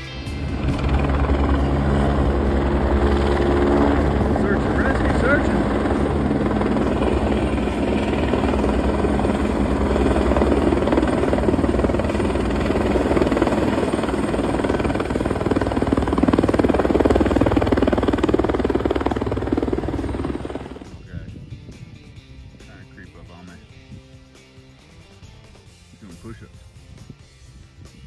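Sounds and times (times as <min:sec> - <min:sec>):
helicopter rotor beating: 0:00.0 - 0:27.0.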